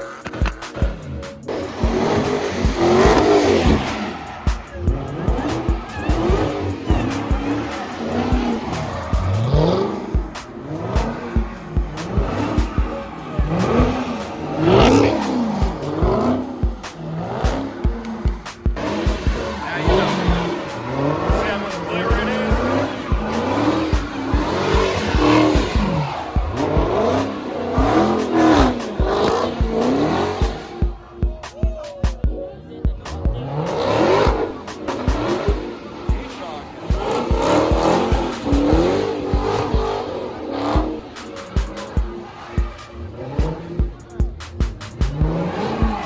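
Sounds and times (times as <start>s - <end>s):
tyres squealing: 0.0s - 32.3s, 33.1s - 46.0s
car engines revving: 0.0s - 46.0s
rap music with heavy bass: 0.0s - 46.0s.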